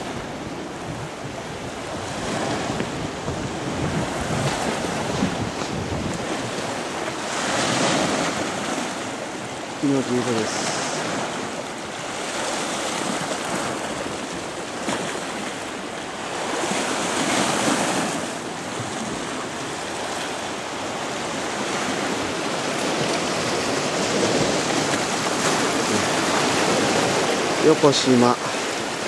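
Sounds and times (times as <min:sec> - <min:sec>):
waves washing against rocks: 0:00.0 - 0:29.0.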